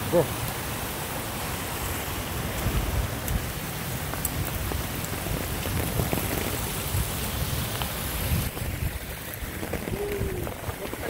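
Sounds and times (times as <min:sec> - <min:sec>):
heavy rain: 0:00.0 - 0:11.0
rushing floodwater: 0:00.0 - 0:11.0
wind buffeting microphone: 0:01.8 - 0:11.0.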